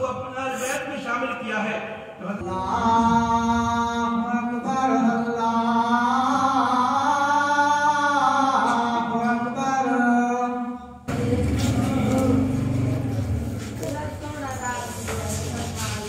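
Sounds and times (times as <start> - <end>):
man chanting over loudspeakers: 0.0 - 13.5.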